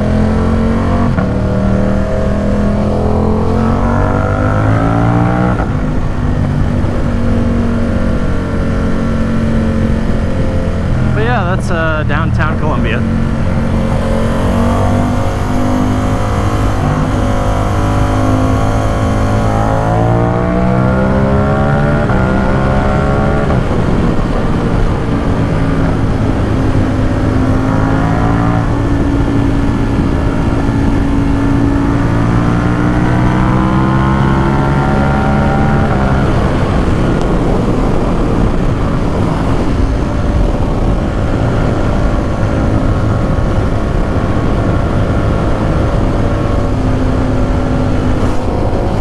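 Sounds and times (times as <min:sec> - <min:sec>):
motorcycle engine accelerating: 0:00.0 - 0:11.4, 0:12.8 - 0:49.0.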